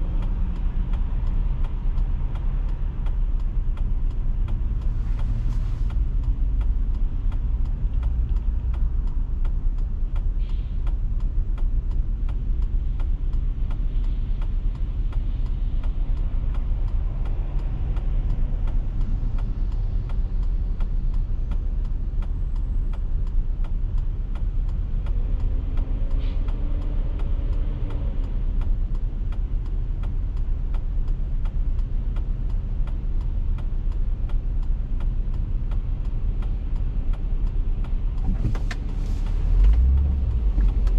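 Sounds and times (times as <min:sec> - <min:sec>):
car driving rumble: 0:00.0 - 0:40.9.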